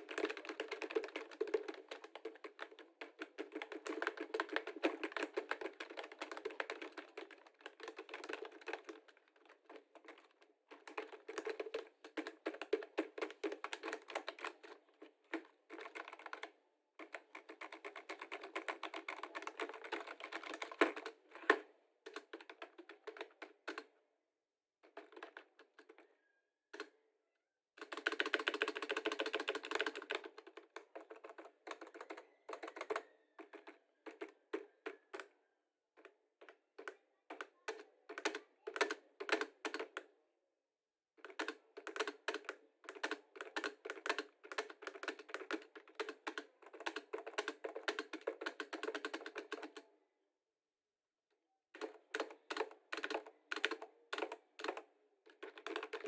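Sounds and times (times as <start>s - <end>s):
fast typing on keyboard: 0.0s - 23.9s, 27.8s - 35.3s, 36.8s - 40.1s, 41.2s - 49.8s, 51.8s - 56.0s.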